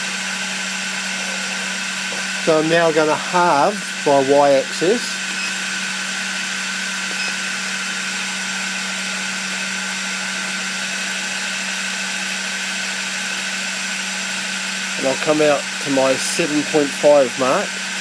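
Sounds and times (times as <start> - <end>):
milling machine motor whine: 0.0 - 18.0.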